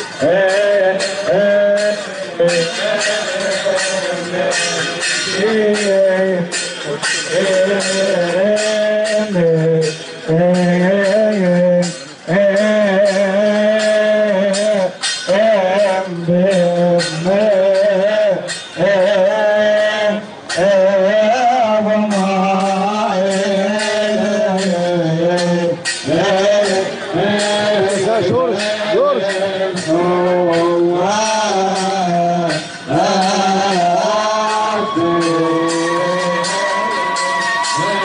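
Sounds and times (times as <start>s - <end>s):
men singing a hymn: 0.0s - 38.0s
percussion strikes: 0.0s - 38.0s.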